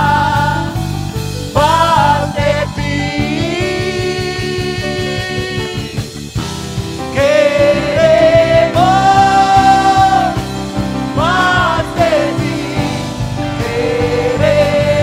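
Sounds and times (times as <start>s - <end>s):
instrumental backing with steady pulse: 0.0s - 15.0s.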